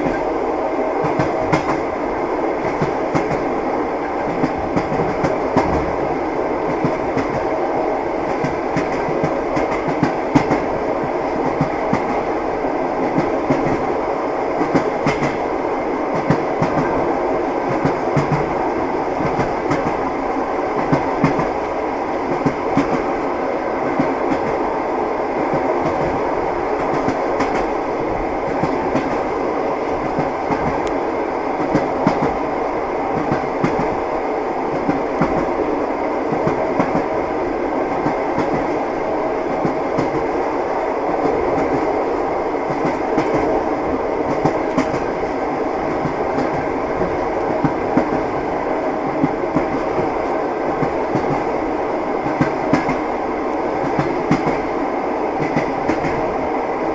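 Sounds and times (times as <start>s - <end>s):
train rumble: 0.0s - 56.9s.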